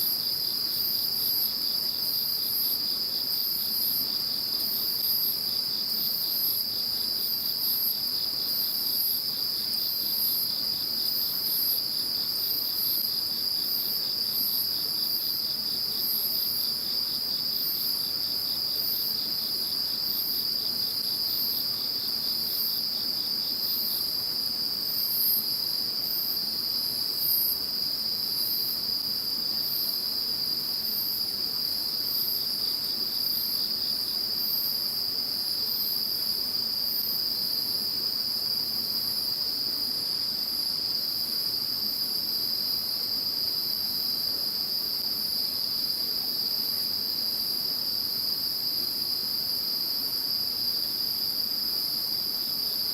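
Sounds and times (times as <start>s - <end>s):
continuous high insect trill: 0.0s - 52.9s.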